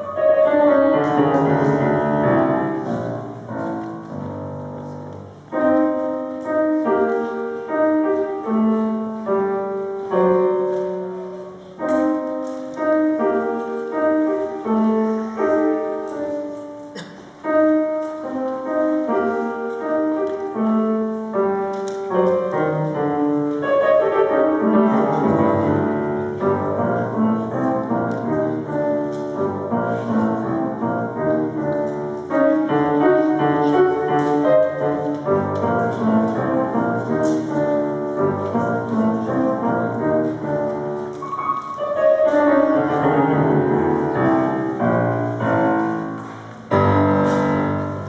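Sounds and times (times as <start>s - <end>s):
grand piano piece: 0.0s - 48.0s.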